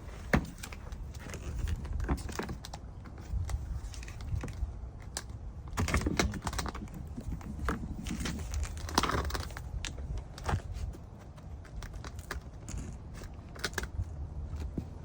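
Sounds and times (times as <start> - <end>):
low background rumble: 0.0 - 15.0
small parts clicking and rattling: 0.3 - 15.0.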